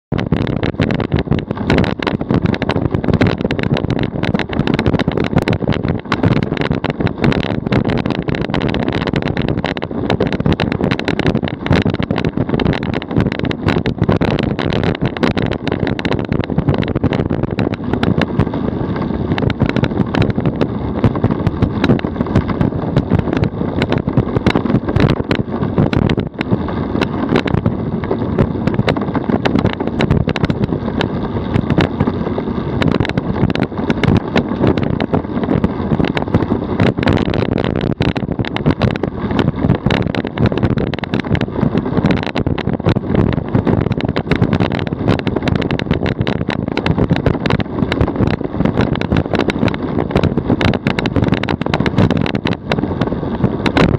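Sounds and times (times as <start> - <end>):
wind on microphone: 0.0 - 53.9
rattles and knocks: 0.1 - 53.9
tyre and road noise: 0.1 - 53.9.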